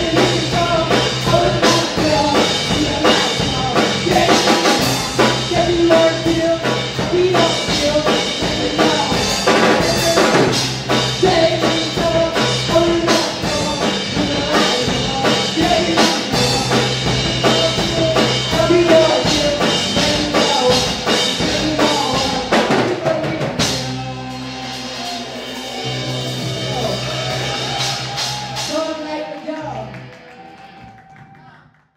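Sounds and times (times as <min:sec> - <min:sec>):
live rock band playing: 0:00.0 - 0:31.0
singer vocals: 0:00.0 - 0:31.7.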